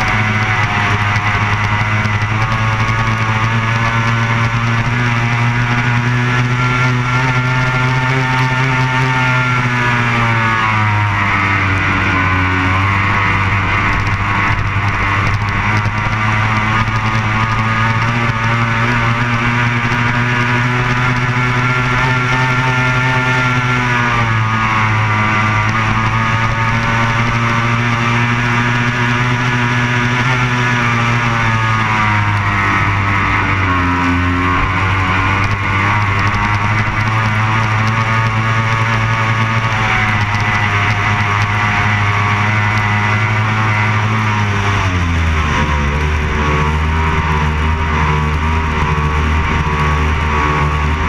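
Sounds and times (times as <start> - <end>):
powerboat engine running hard: 0.0 - 51.0.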